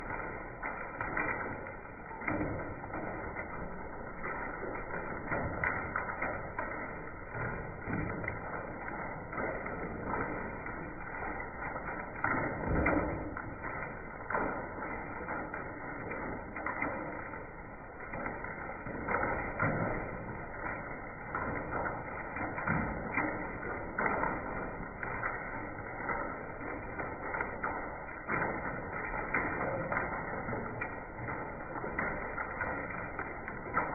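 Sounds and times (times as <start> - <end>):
hailstones rattling: 0.0 - 33.9.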